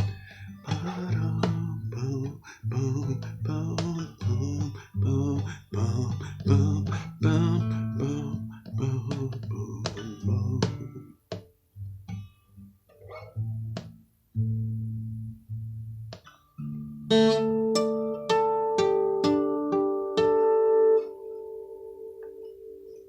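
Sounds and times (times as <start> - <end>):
guitar playing rhythmic chords: 0.0 - 23.0.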